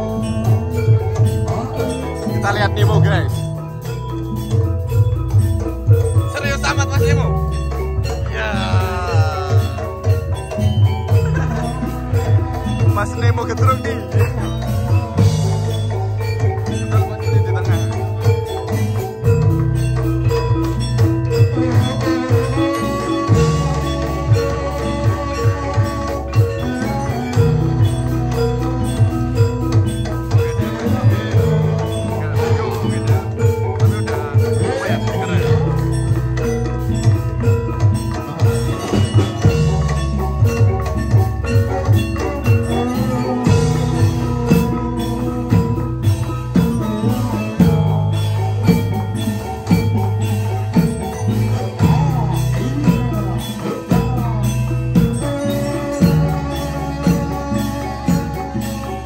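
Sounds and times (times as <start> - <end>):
drum strokes: 0.0 - 59.0
held bass: 0.0 - 59.0
live band dance music: 0.0 - 59.0
metallophones playing melody: 0.0 - 59.0.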